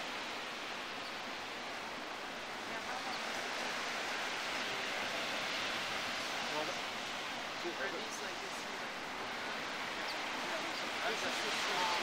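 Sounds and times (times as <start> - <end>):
ocean surf on beach: 0.0 - 12.0.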